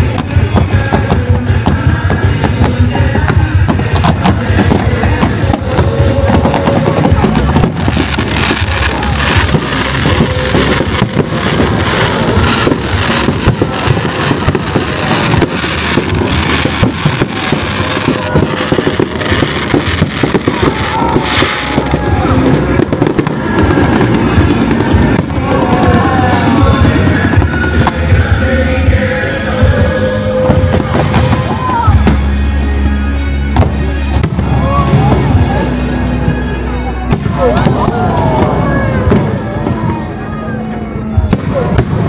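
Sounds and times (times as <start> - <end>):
fireworks bangs and crackles: 0.0 - 42.0
music playing: 0.0 - 42.0.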